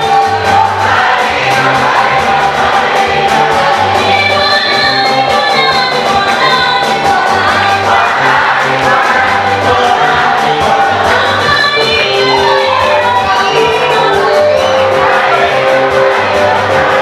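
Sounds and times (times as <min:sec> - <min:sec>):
choir singing gospel: 0:00.0 - 0:17.0
music with steady beat: 0:00.0 - 0:17.0.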